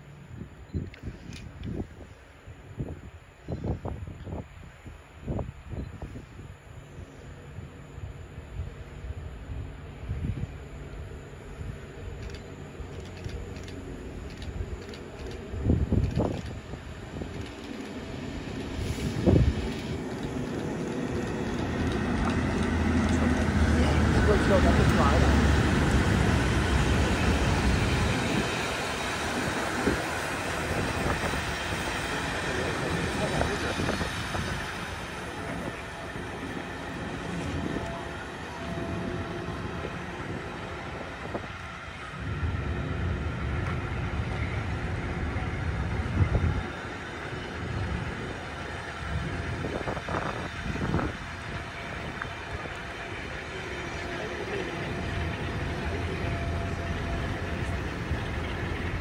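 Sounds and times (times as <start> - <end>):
train wheels rushing on rail: 7.3 - 59.0.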